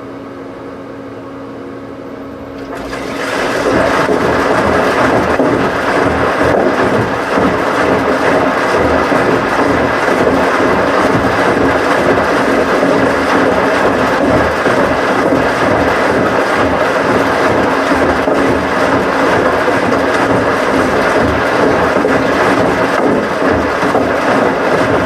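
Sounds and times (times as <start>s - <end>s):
washing machine running: 2.1s - 25.0s.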